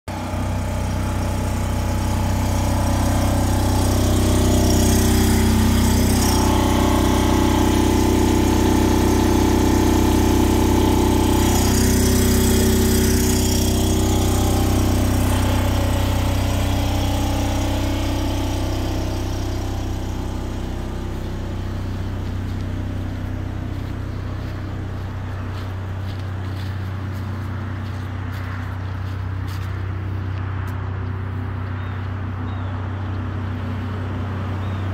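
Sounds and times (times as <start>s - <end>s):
generator humming: 0.1s - 34.9s.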